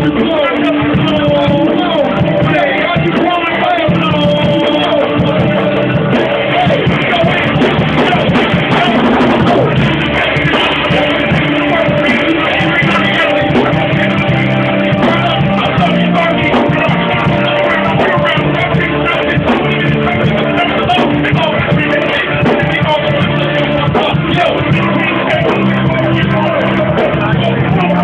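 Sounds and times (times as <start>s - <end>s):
live band playing: 0.0s - 28.0s
person singing: 0.0s - 28.0s.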